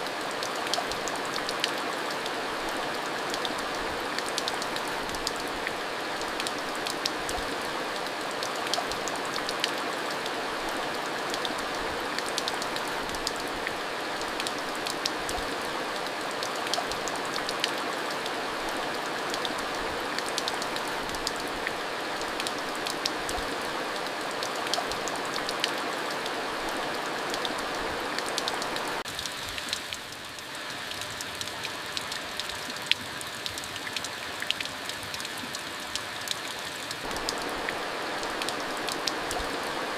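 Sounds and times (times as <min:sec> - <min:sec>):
steady rain with ticking drops: 0:00.0 - 0:39.9.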